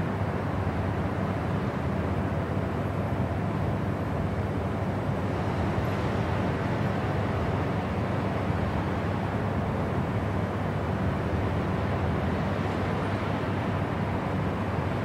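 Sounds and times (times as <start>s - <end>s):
airliner cabin engine and airflow noise: 0.0s - 15.0s.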